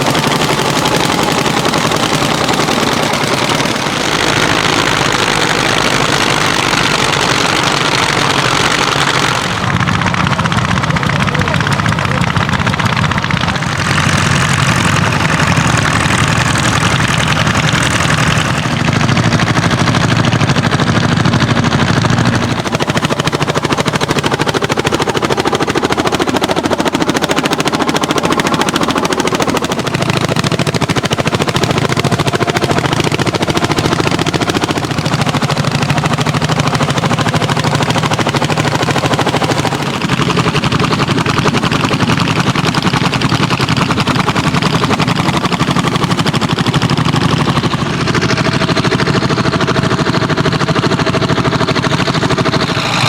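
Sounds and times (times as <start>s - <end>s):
tractor engines chugging: 0.0s - 53.0s.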